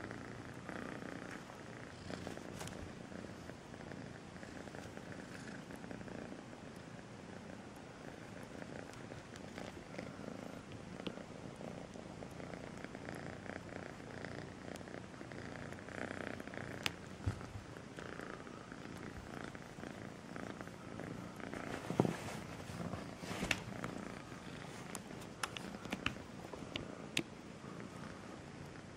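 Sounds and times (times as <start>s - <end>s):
kitten purring: 0.0s - 28.9s.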